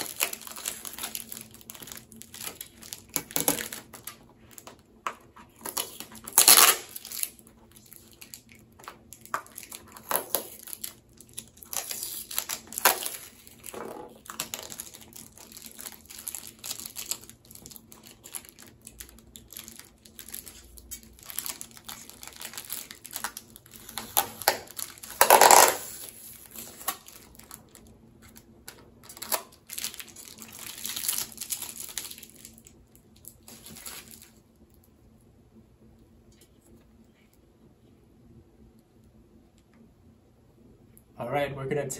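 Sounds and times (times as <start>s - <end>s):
packaging crinkling and rustling: 0.0s - 35.0s.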